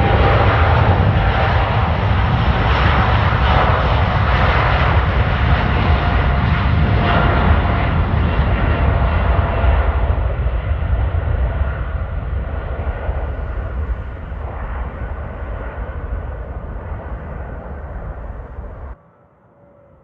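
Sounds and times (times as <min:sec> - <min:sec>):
airliner engine rumble and whine: 0:00.0 - 0:20.0.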